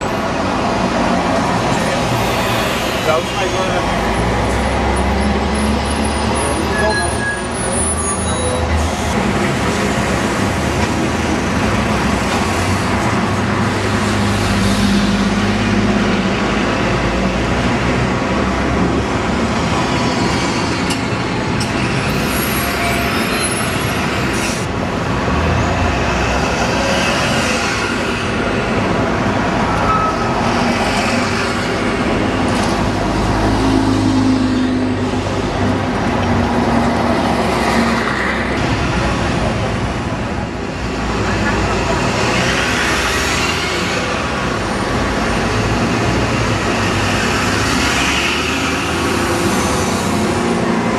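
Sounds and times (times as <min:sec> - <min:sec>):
buses passing: 0:00.0 - 0:50.9
road traffic engine and tyre noise: 0:00.0 - 0:50.9.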